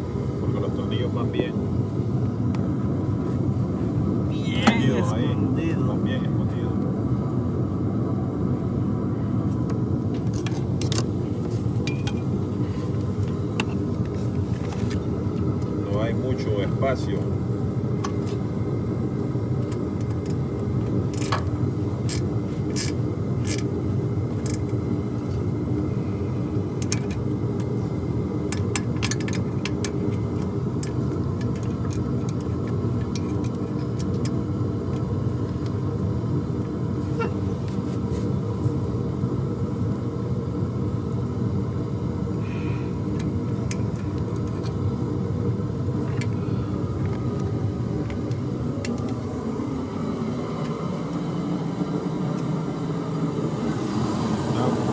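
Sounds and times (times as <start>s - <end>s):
steady low rumble: 0.0s - 54.9s.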